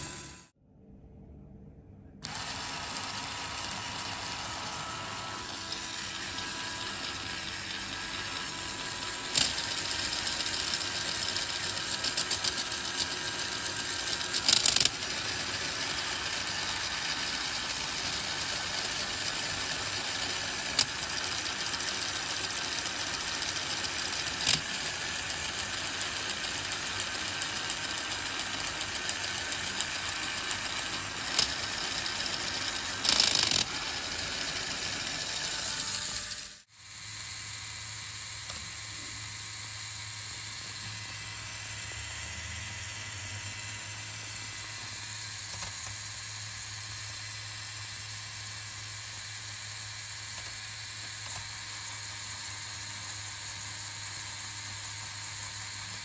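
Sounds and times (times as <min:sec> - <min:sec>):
plastic gears whirring rattle: 0:00.0 - 0:00.5, 0:02.2 - 0:56.0.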